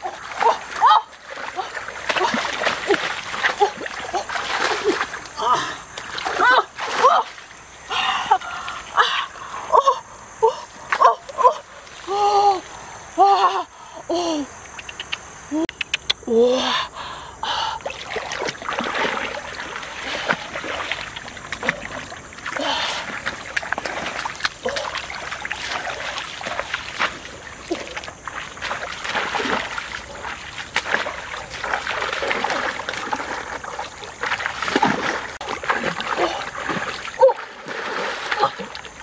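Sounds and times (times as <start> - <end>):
water splashing and sloshing: 0.0 - 13.2, 17.0 - 39.0.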